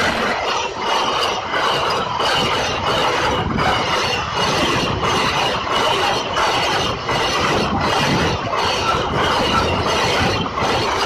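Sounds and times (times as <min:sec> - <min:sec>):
train wheels rattling on rails: 0:00.0 - 0:11.0.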